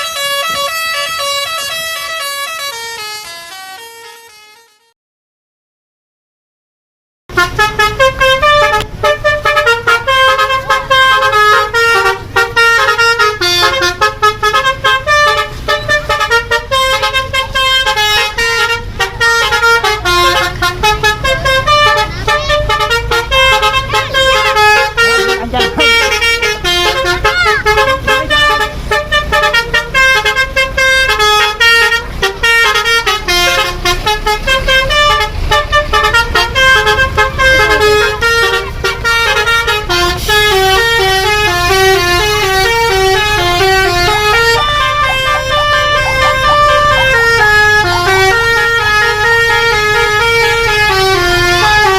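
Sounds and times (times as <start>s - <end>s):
multi-tone bus horn playing a tune: 0.0s - 5.0s, 7.3s - 51.9s.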